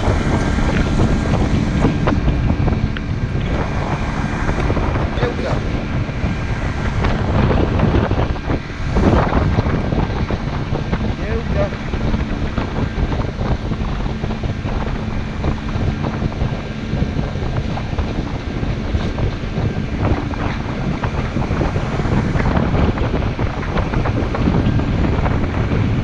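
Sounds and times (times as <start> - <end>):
boat motor droning: 0.0 - 26.0
wind buffeting microphone: 0.0 - 26.0.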